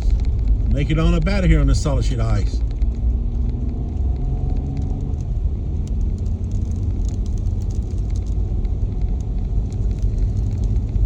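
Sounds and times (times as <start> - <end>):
faint crackles: 0.0 - 11.0
vehicle engine rumble inside cabin: 0.0 - 11.0.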